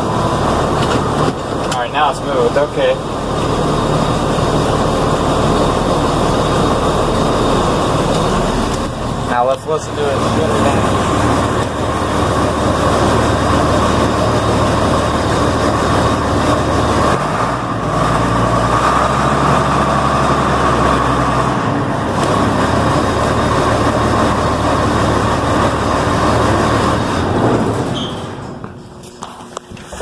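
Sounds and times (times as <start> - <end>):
diesel engine running: 0.0 - 29.2.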